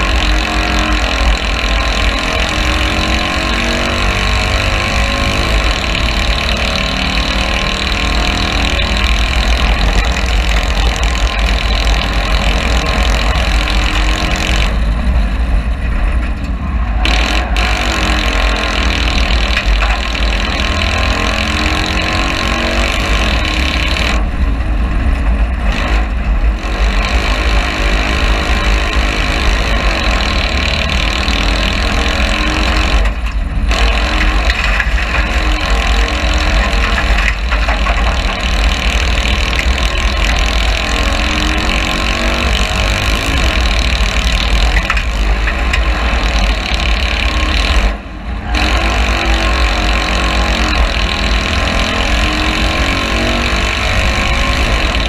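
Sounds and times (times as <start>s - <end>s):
car engine working hard: 0.0s - 55.0s.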